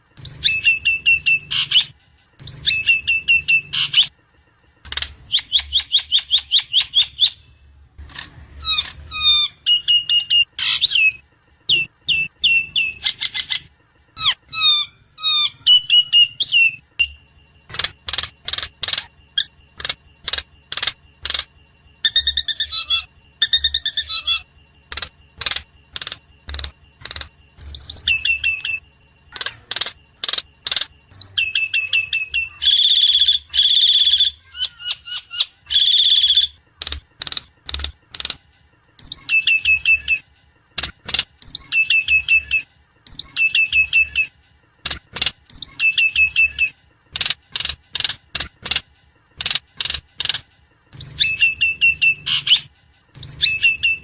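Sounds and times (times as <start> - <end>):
harsh buzzy bird calls: 0.0 - 48.8.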